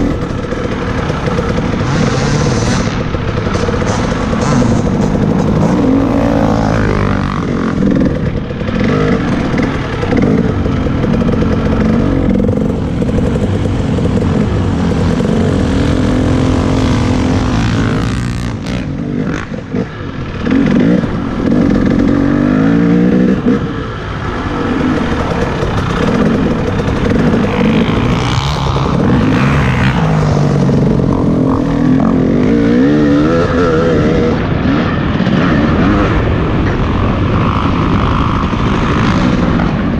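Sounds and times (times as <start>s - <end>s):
off-road motorcycle engine revving: 0.0s - 39.9s.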